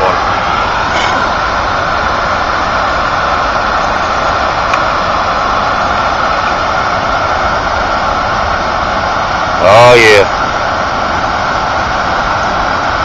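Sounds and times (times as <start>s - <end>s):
water pouring over a dam: 0.0s - 13.0s.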